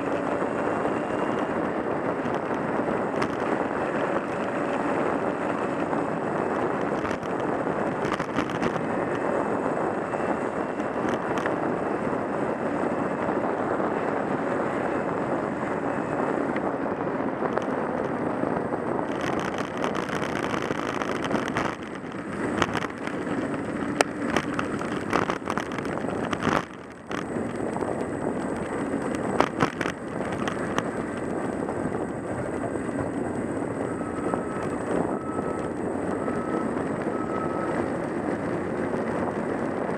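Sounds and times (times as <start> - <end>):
car interior road rumble: 0.0 - 39.9.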